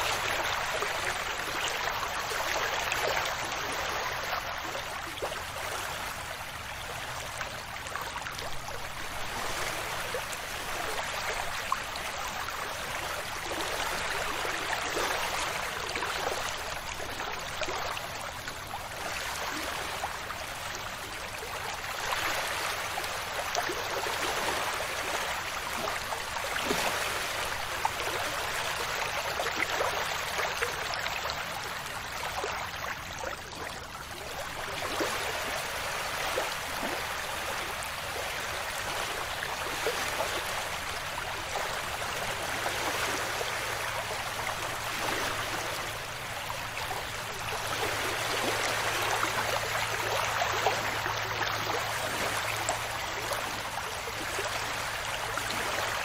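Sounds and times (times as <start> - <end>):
small waves washing onto beach: 0.0 - 56.0.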